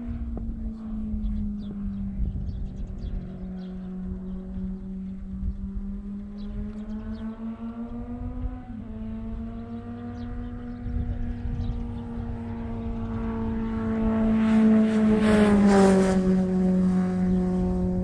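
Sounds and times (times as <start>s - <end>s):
motor engine droning: 0.0s - 18.0s.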